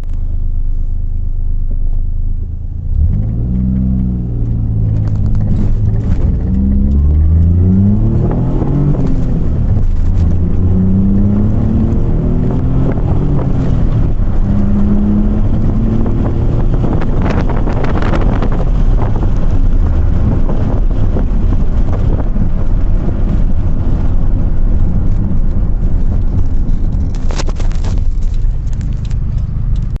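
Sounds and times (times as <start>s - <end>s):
car engine revving under load: 0.0s - 30.0s.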